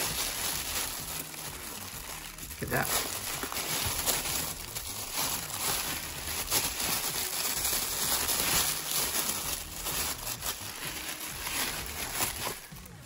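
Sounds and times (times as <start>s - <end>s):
tissue paper rustling and crinkling: 0.0s - 13.0s.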